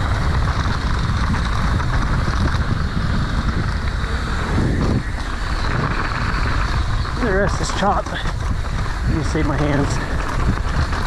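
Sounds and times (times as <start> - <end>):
bike rattling on rocky trail: 0.0 - 11.0
wind buffeting microphone: 0.0 - 11.0.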